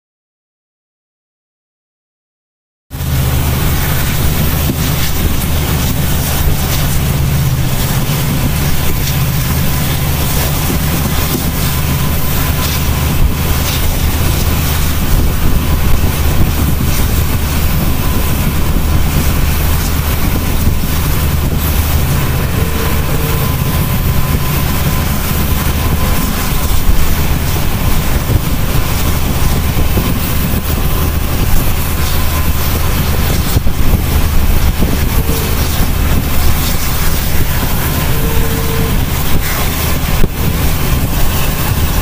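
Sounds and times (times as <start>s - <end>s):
loud rushing hiss: 2.9s - 42.0s
train wheels rumbling on track: 2.9s - 42.0s.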